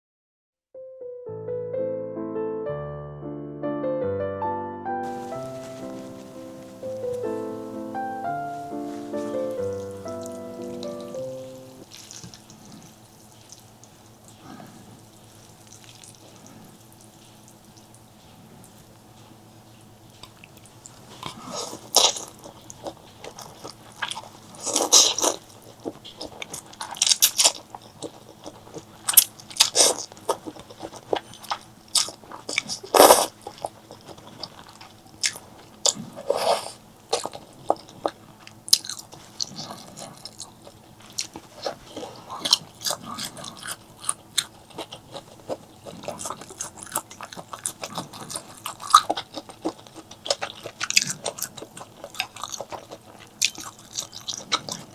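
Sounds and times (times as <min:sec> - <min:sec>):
person chewing crunchy food: 0:05.0 - 0:54.9.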